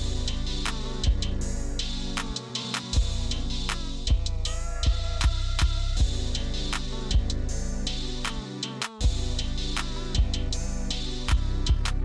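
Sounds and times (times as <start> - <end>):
drums: 0.0 - 12.0.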